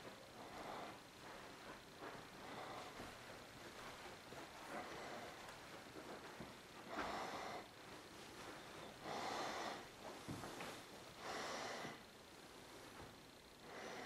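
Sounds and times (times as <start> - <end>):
soft breathing: 0.0 - 14.0.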